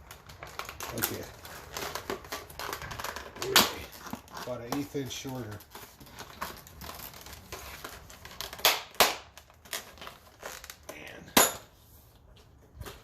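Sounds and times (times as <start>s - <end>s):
packaging ripping: 0.0s - 10.9s
packaging crinkling and rustling: 0.0s - 11.0s.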